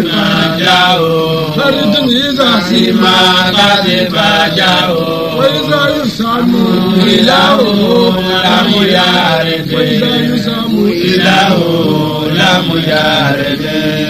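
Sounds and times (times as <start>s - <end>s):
person chanting recitation: 0.0s - 14.0s.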